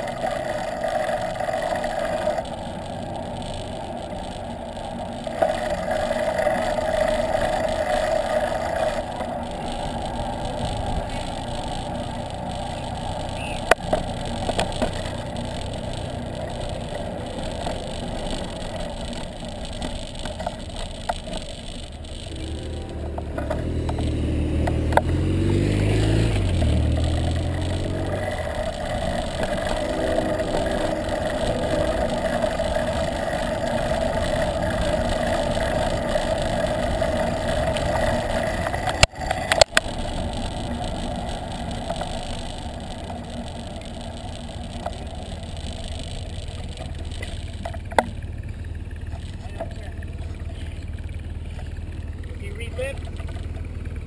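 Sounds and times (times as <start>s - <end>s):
motorcycle passing: 0.0s - 54.0s
wind and road noise: 0.0s - 54.0s.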